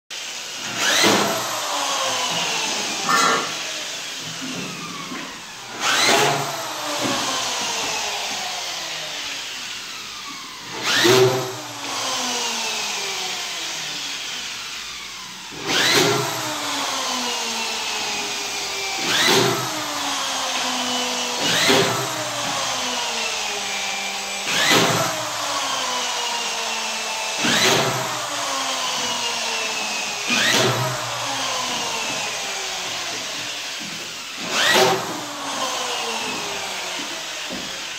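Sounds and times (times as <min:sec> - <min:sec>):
motor whine winding down: 0:00.8 - 0:37.9.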